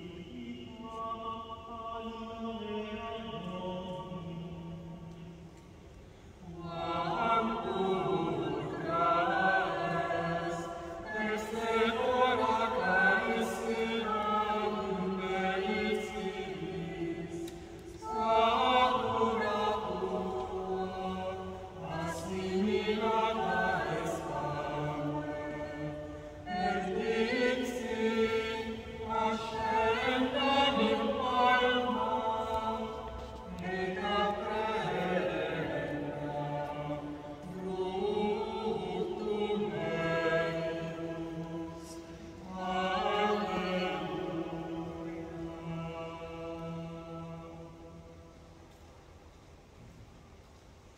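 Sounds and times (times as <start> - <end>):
choir singing a cappella: 0.0 - 48.7.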